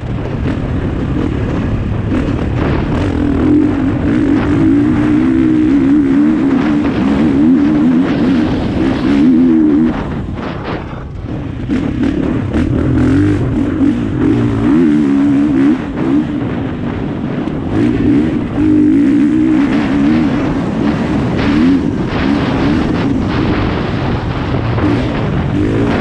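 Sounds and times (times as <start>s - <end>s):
dirt bike engine revving: 0.0s - 26.0s
wind rush: 0.0s - 26.0s.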